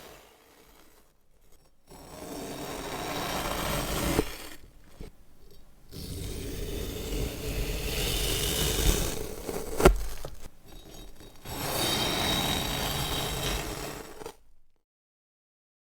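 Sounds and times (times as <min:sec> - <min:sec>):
rough cutting scrape: 0:00.0 - 0:14.7.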